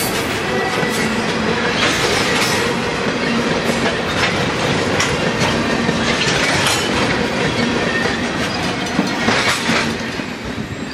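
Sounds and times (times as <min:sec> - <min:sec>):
freight train rolling past: 0:00.0 - 0:10.9
wheels clacking over rail joints: 0:00.0 - 0:10.9.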